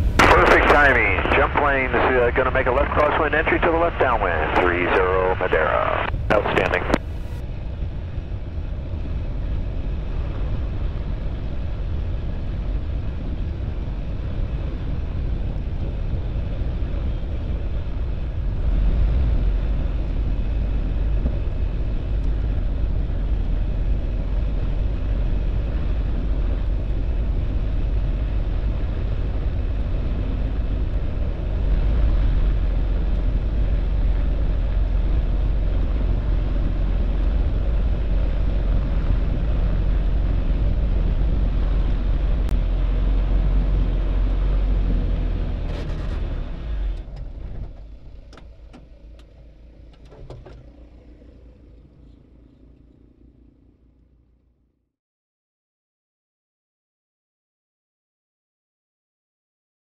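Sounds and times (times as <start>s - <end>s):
light aircraft engine droning: 0.0s - 54.8s.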